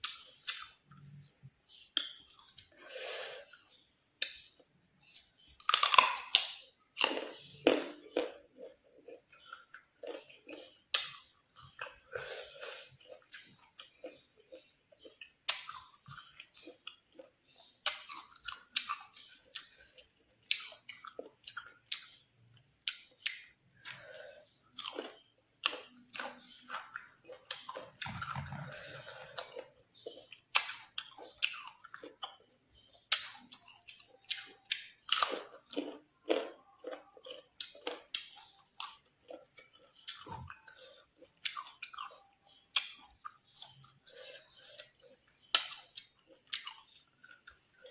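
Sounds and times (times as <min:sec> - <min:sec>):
crunching and chewing mango: 0:03.5 - 0:47.9.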